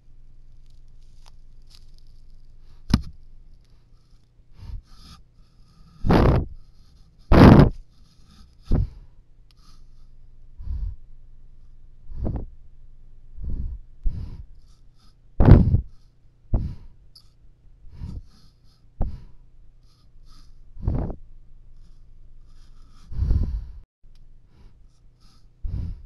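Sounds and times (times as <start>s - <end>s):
moose breathing and sniffing: 0.6s - 11.1s, 13.4s - 17.0s, 17.9s - 23.8s, 24.4s - 26.0s.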